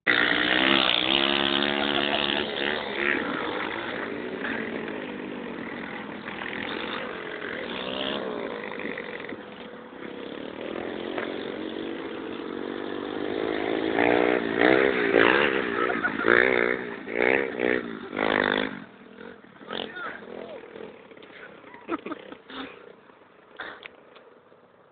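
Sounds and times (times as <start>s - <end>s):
motocross bike engines revving: 0.0s - 24.7s.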